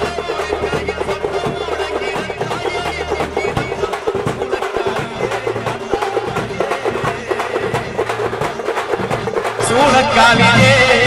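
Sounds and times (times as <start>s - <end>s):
bass drum beating: 0.0s - 11.0s
hand drums beating: 0.0s - 11.0s.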